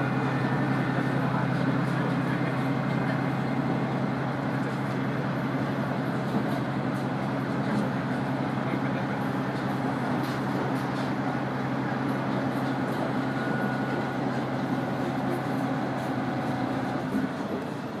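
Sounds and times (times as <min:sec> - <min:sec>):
diesel engine drone: 0:00.0 - 0:18.0
wheels rumbling on rails: 0:00.0 - 0:18.0.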